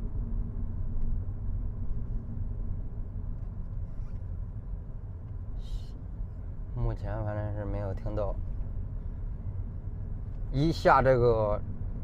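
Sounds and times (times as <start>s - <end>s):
engine hum: 0.0s - 12.0s
road and tyre rumble: 0.0s - 12.0s.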